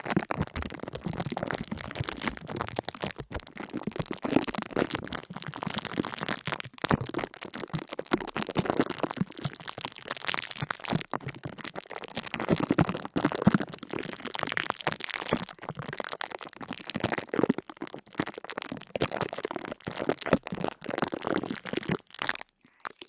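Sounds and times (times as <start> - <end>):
dense crackling and crunching: 0.0 - 23.0.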